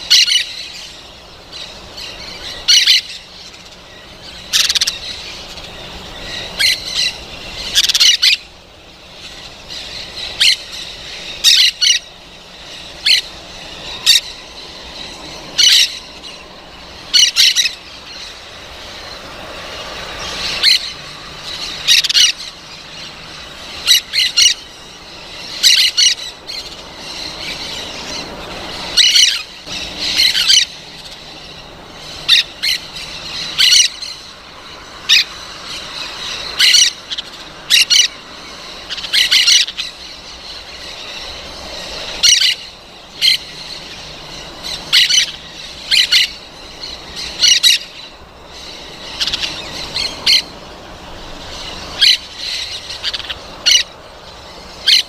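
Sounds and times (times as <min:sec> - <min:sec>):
parrot calling: 0:00.0 - 0:55.0.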